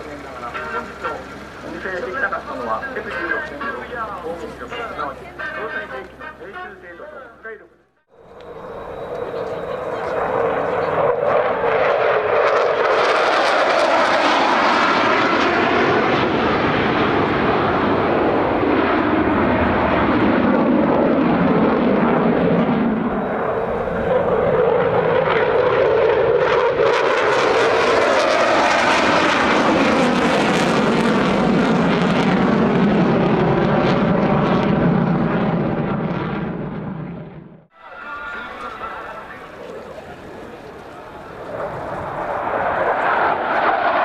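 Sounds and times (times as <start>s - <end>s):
jet engine roaring: 0.0s - 7.0s, 8.1s - 44.0s.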